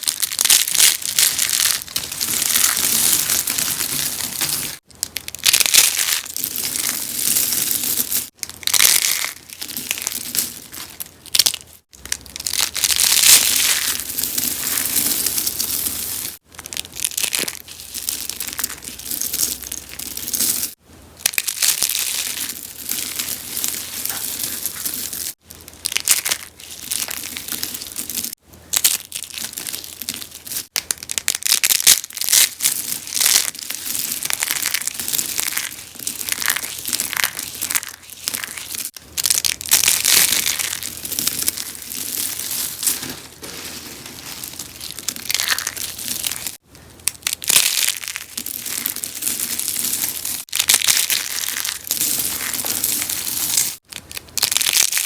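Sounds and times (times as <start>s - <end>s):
soap being crunched: 0.0s - 55.0s.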